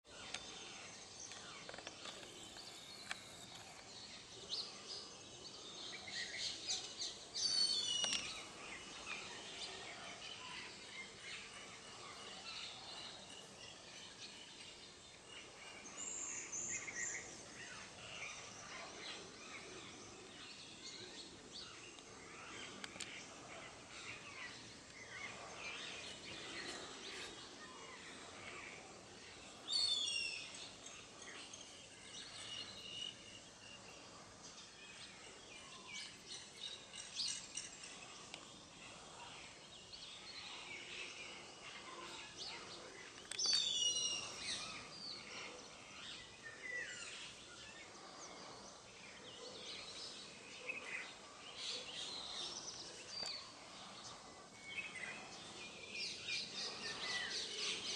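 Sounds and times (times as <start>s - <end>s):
bird chirps: 0.1s - 57.9s.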